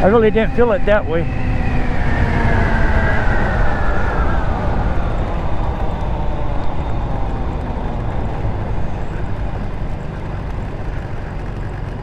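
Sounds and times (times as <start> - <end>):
scooter engine running: 0.0 - 12.0
wind rumble on microphone: 0.0 - 12.0.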